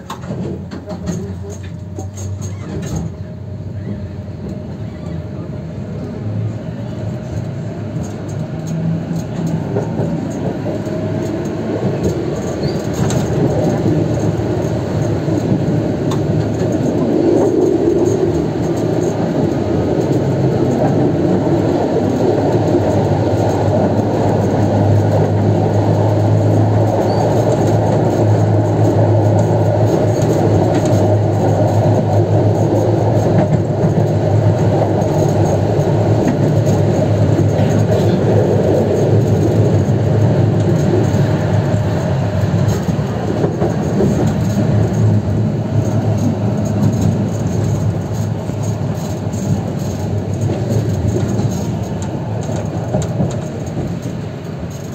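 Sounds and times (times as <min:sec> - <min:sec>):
tram running on track: 0:00.0 - 0:54.9
wheel and rail rumble: 0:00.0 - 0:54.9.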